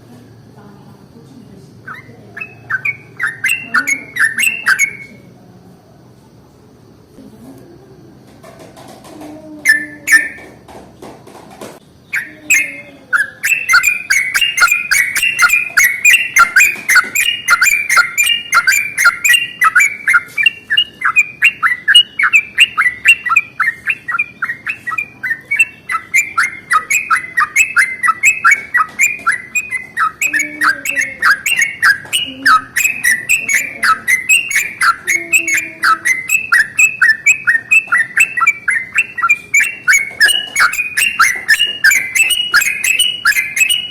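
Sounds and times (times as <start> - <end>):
bird singing rapid chattering notes: 1.8 - 5.3, 9.4 - 10.6, 11.9 - 43.9.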